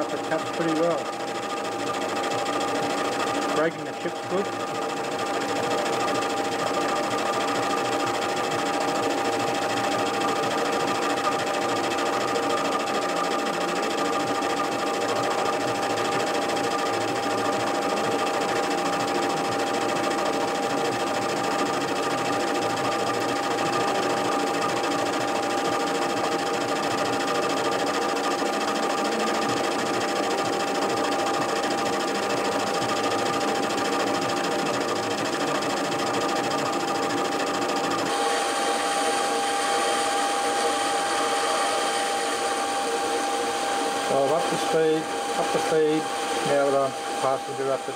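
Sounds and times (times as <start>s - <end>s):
metal lathe whining: 0.0s - 47.9s.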